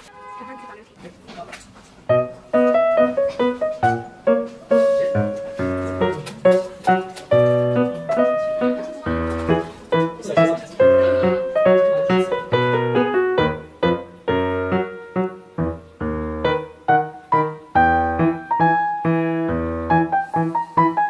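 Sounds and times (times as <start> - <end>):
background piano music: 2.0 - 21.0.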